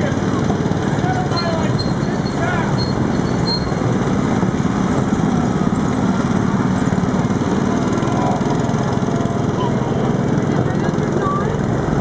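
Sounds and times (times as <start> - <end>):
small gasoline engine buzzing: 0.0 - 12.0.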